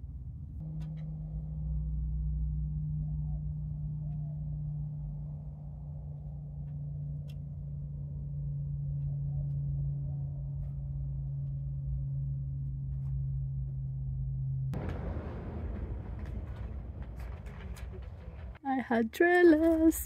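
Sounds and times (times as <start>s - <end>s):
rumble: 0.0s - 20.0s
steady low hum: 0.0s - 20.0s.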